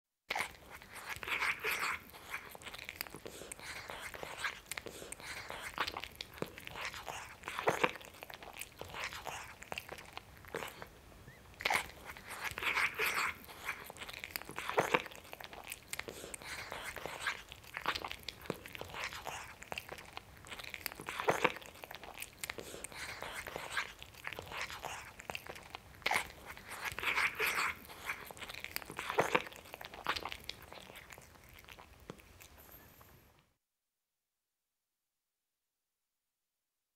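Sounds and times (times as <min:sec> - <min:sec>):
cat chewing and lip-smacking: 0:00.3 - 0:32.8.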